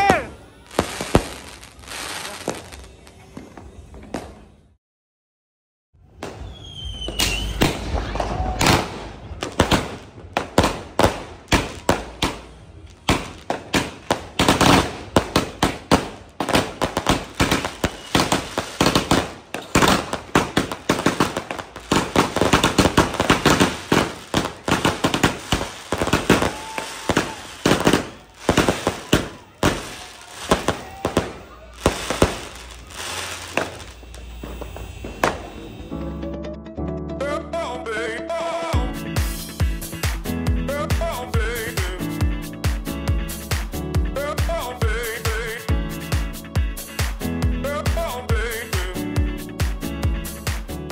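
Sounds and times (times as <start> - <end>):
fireworks launches and bangs: 0.0 - 4.6, 6.0 - 36.2, 39.0 - 50.8.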